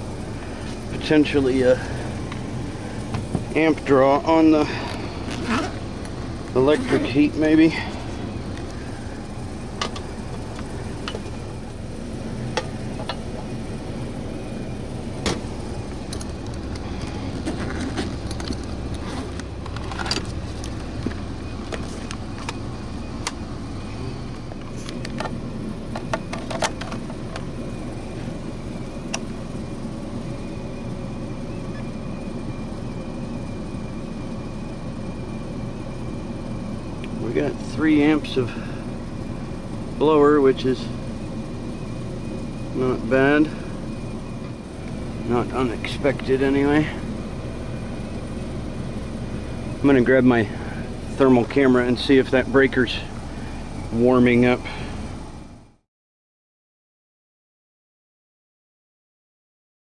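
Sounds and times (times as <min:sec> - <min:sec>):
air handler blower humming: 0:00.0 - 0:55.8.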